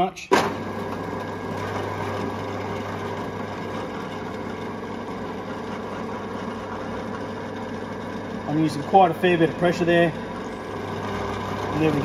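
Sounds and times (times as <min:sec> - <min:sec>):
drill press motor humming: 0:00.0 - 0:12.0.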